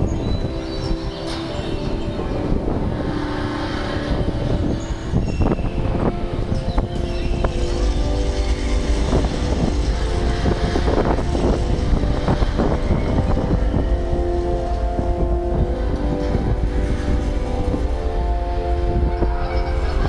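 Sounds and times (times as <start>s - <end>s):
held soundtrack tones: 0.0s - 20.0s
wind buffeting microphone: 0.0s - 20.0s.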